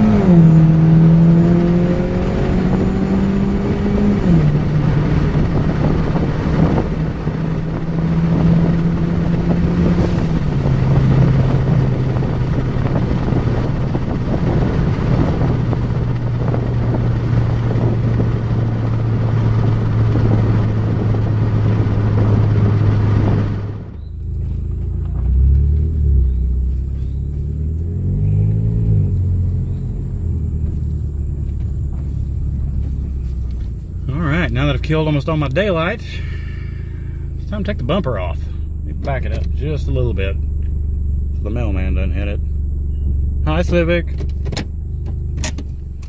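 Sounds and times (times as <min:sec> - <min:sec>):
car engine: 0:00.0 - 0:46.0
low wavering rumble: 0:00.0 - 0:46.0
wind and road noise: 0:00.0 - 0:46.0.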